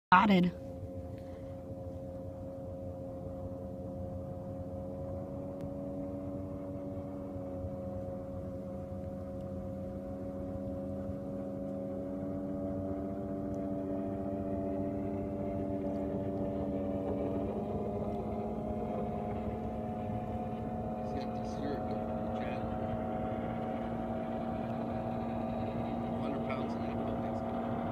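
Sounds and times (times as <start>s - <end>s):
distant speedboat engine drone: 0.1s - 27.9s.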